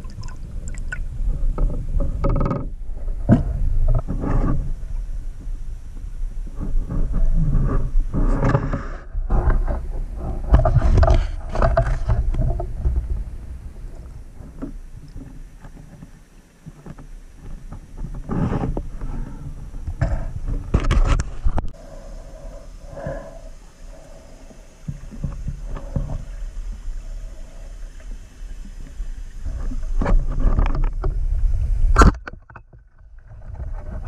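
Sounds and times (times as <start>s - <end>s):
water sloshing underwater: 0.0s - 34.0s.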